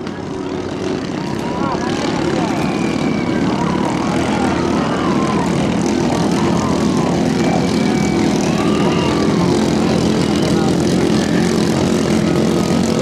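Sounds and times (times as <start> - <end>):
racing boat engines droning: 0.0 - 13.0.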